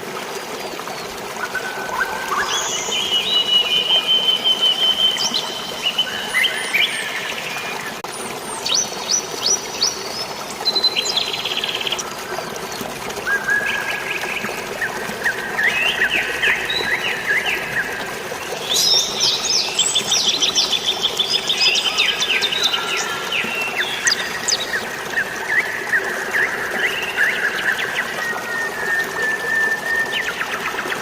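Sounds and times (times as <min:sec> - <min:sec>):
flowing water: 0:00.0 - 0:31.0
rain: 0:00.0 - 0:31.0
birds chirping and trilling: 0:01.4 - 0:12.0, 0:13.3 - 0:28.9.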